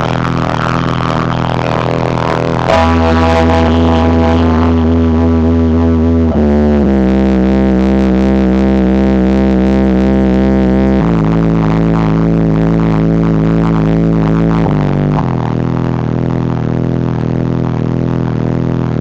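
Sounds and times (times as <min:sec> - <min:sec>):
bass-heavy music from subwoofer: 0:00.0 - 0:19.0.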